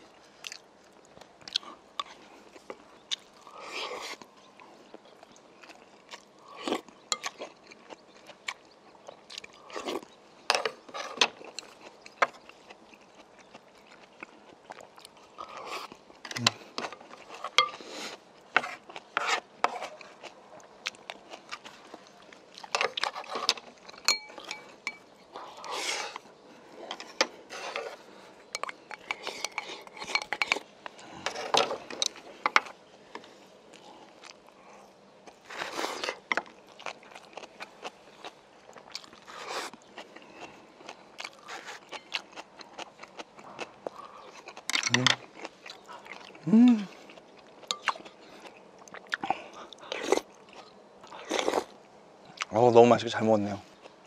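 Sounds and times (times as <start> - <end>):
chewing: 0.1 - 52.5.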